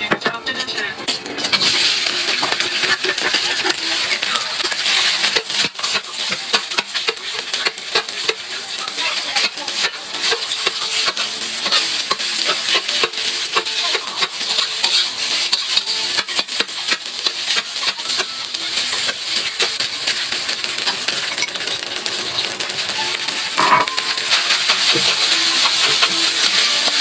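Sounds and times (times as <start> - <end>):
spatula scraping and knocking pan: 1.1 - 21.6, 22.4 - 27.0
food sizzling in a pan: 1.2 - 27.0.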